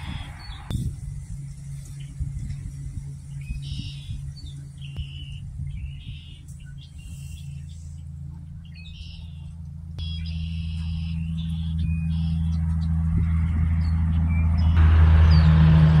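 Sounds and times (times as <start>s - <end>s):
birds chirping: 0.0s - 15.8s
low engine hum: 0.0s - 16.0s.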